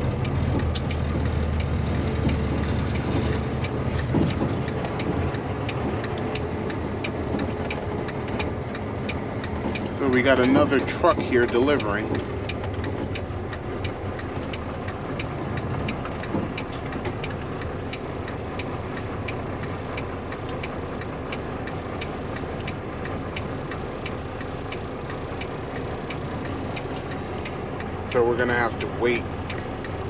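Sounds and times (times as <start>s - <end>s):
diesel truck engine idling: 0.0s - 30.0s
turn signal flasher ticking: 0.0s - 30.0s.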